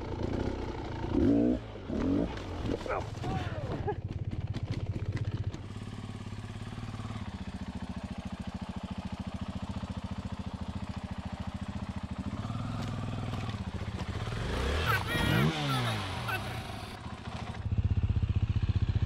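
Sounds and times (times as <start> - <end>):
dirt bike engine at low revs: 0.0 - 19.0.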